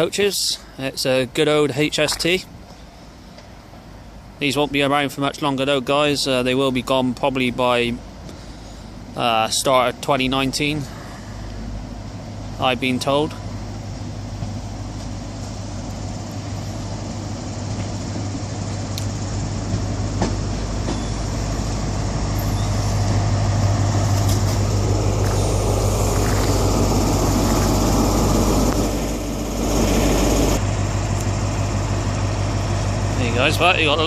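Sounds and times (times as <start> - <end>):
diesel train engine hum: 0.0 - 34.0.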